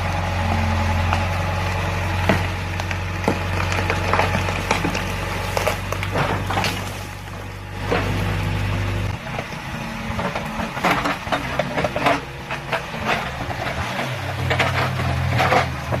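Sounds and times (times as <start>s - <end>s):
backhoe diesel engine working: 0.0s - 16.0s
wood and roots cracking: 0.2s - 16.0s.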